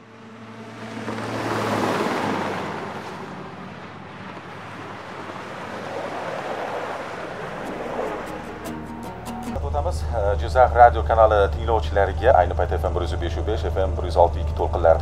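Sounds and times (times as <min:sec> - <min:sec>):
low steady drone: 0:00.0 - 0:05.8, 0:06.9 - 0:15.0.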